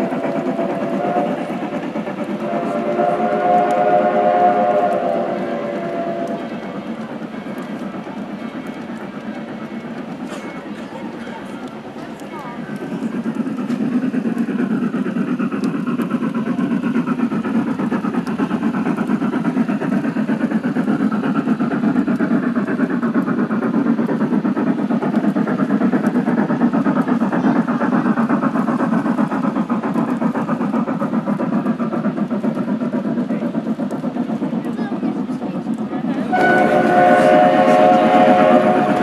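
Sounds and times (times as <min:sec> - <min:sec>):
model train wheels rumbling: 0:00.0 - 0:39.0.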